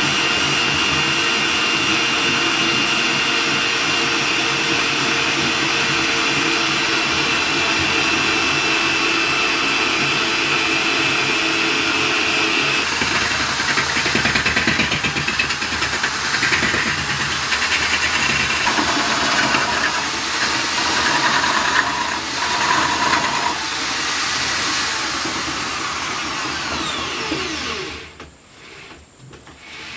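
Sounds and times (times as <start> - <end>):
wood lathe running: 0.0 - 28.2.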